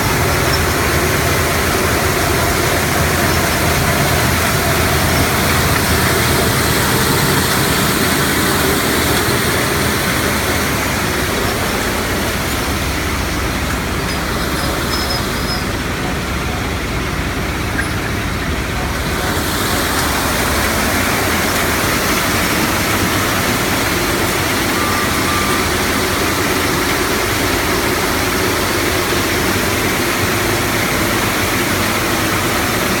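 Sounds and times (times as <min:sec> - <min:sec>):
gravel crushing machinery: 0:00.0 - 0:33.0.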